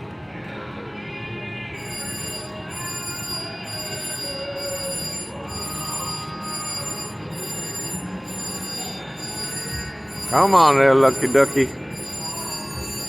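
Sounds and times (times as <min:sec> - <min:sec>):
casino machines din: 0:01.8 - 0:13.0
slot machine chiming and ringing: 0:01.8 - 0:13.0.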